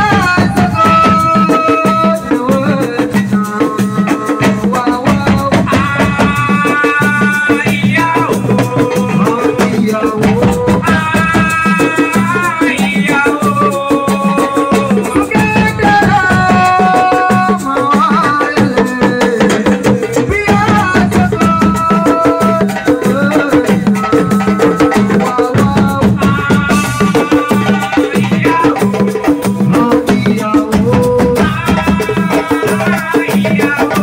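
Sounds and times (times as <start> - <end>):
fast drum and percussion rhythm: 0.0 - 34.0
held melody line: 0.0 - 34.0.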